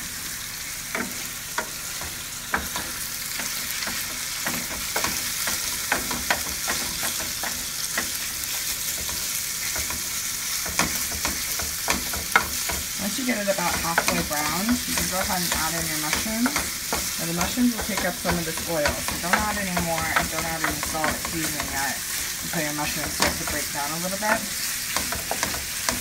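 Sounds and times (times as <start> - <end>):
meat sizzling in a frying pan: 0.0 - 26.0
wooden spoon scraping a pan: 0.9 - 26.0.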